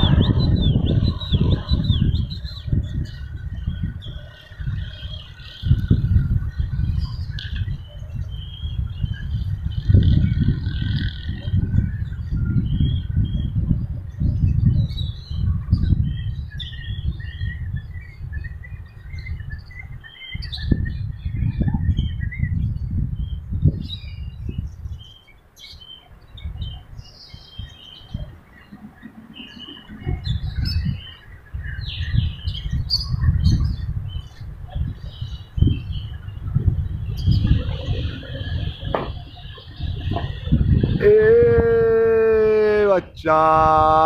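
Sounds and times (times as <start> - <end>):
small birds chirping: 0.0 - 41.0
wind buffeting microphone: 0.0 - 44.0.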